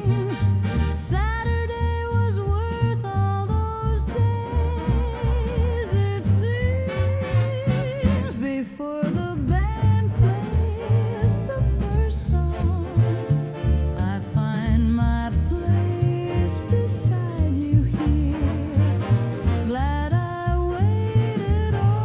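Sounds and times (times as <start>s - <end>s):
swing dance band music: 0.0s - 22.0s.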